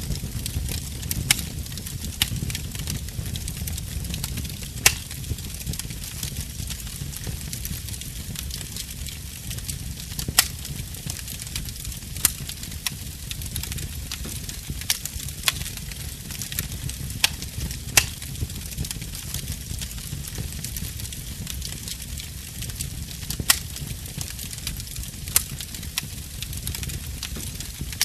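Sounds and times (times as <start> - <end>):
fire popping: 0.0 - 28.0
wood fire crackling: 0.0 - 28.0.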